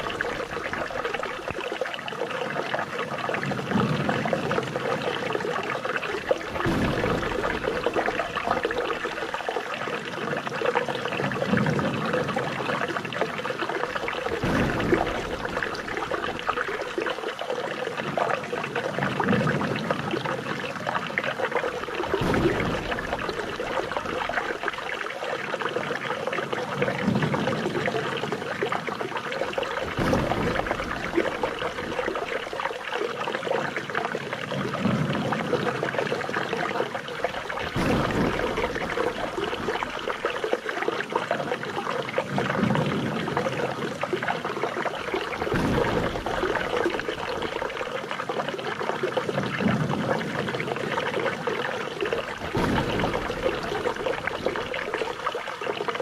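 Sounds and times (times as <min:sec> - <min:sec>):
flowing trickling water: 0:00.0 - 0:56.0.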